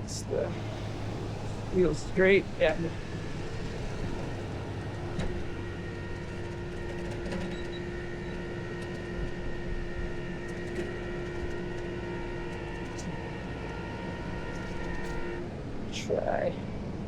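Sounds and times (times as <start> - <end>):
engines idling: 0.0 - 17.0
hydraulic winch whining: 0.5 - 15.4.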